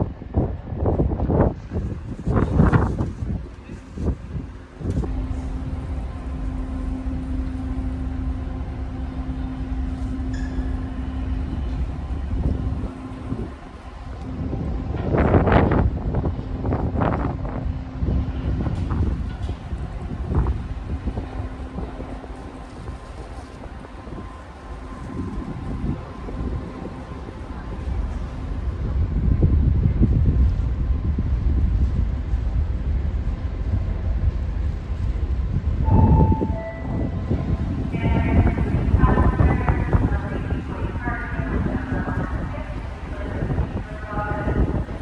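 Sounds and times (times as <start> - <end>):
boat engine rumble: 0.0 - 45.0
constant drone: 0.0 - 45.0
wind on microphone: 0.0 - 45.0.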